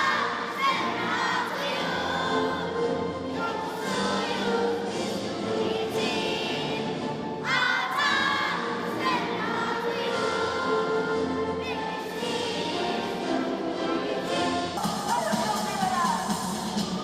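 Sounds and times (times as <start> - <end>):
choir singing with music: 0.0 - 17.0.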